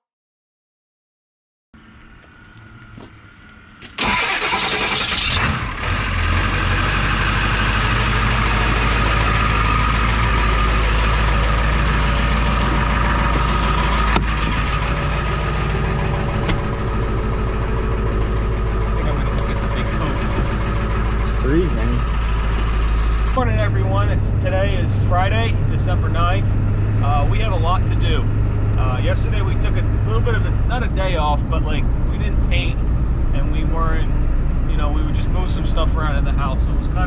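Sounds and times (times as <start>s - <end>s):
diesel engine starting and idling: 1.8s - 37.0s.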